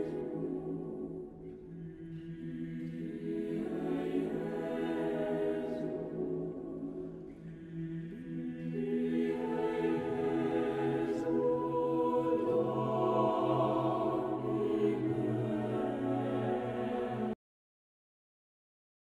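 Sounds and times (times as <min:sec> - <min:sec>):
choir singing slowly: 0:00.0 - 0:17.4.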